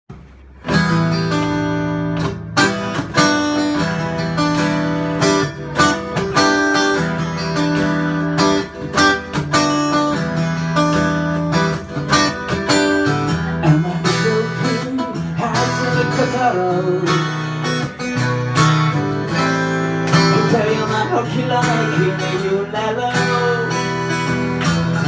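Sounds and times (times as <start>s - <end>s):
strummed guitar chords: 0.1s - 25.0s.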